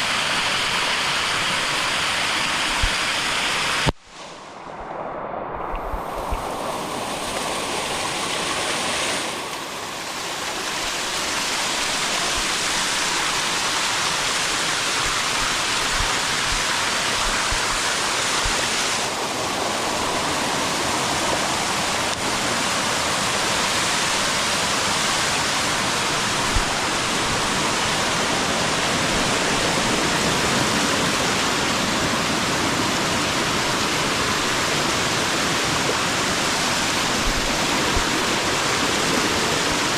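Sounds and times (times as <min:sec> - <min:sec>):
waterfall rushing over rock: 0:00.0 - 0:04.4, 0:05.7 - 0:39.9.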